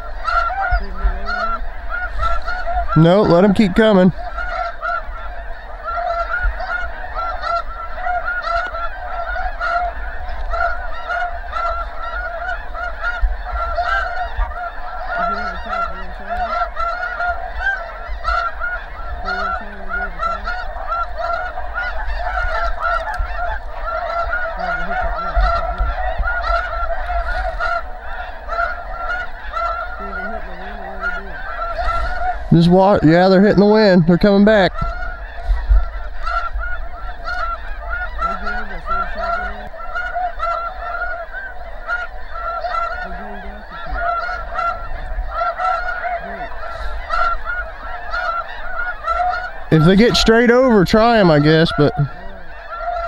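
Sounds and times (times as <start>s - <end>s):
geese honking: 0.0s - 53.0s.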